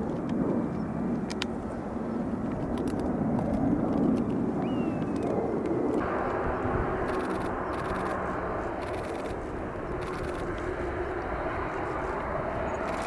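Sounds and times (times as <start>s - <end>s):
jet engine rushing: 0.0s - 13.0s.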